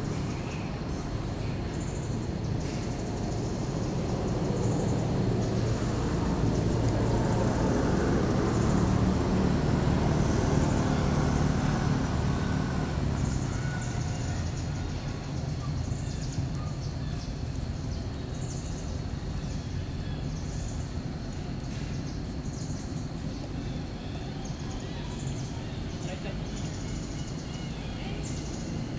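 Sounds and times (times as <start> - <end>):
vehicle engine droning: 0.0 - 28.9.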